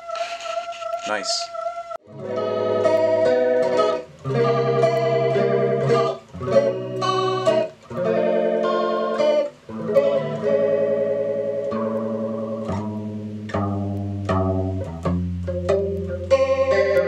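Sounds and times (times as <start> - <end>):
flanged electric guitar chords: 1.2 - 17.0.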